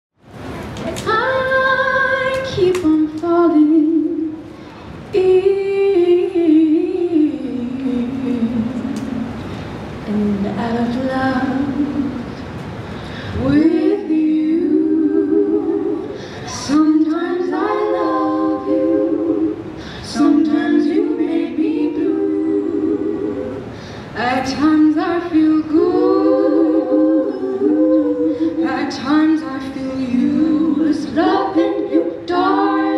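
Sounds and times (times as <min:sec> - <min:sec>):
women singing held notes: 0:00.3 - 0:32.9.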